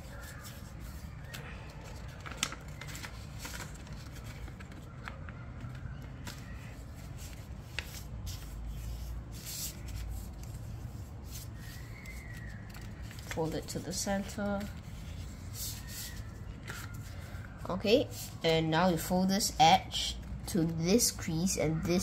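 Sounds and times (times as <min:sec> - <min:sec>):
paper creasing crackles: 0:00.0 - 0:18.4
paper rustling and crinkling: 0:00.0 - 0:18.4.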